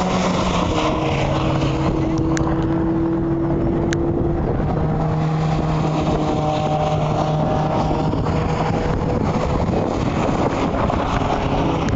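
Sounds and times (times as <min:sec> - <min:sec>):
car engine running steadily: 0:00.0 - 0:11.9
wind buffeting microphone: 0:00.0 - 0:11.9.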